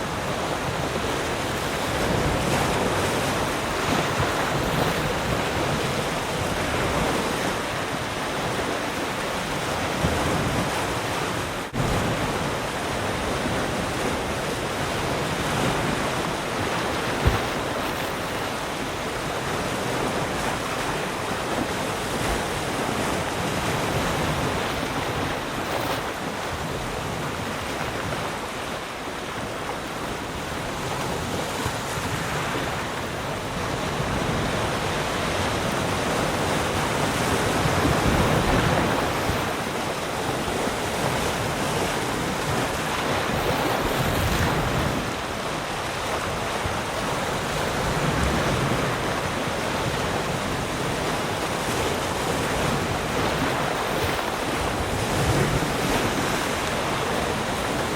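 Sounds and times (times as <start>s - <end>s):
ocean surf washing: 0.0s - 57.9s.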